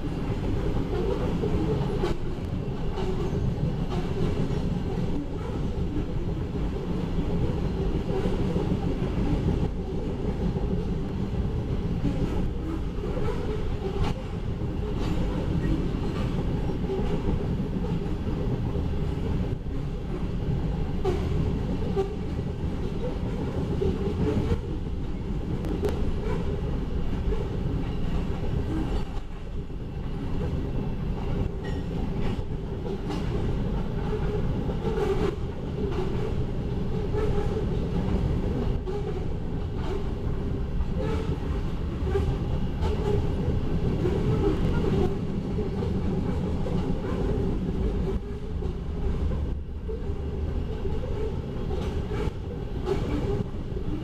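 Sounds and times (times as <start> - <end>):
freight train rumbling past: 0.0 - 54.0
steel wheels clattering over rail joints: 7.3 - 54.0.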